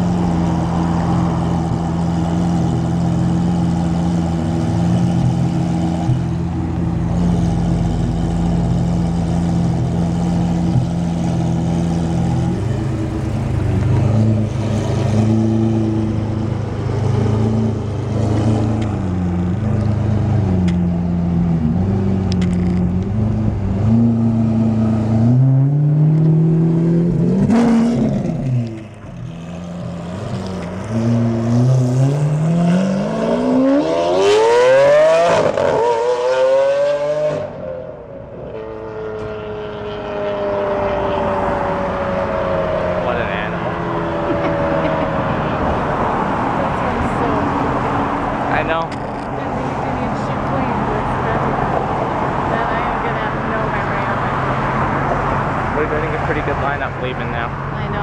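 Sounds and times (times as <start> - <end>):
sports car engine revving: 0.0 - 58.0.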